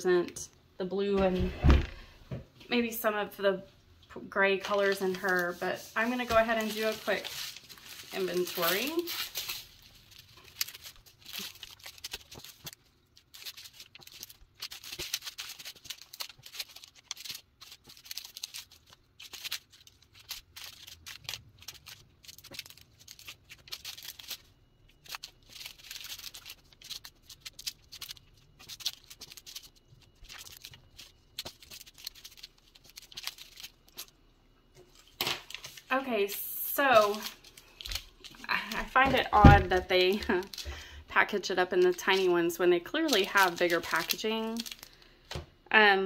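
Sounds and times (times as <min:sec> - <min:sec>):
plastic bags crinkling: 0:04.6 - 0:45.4.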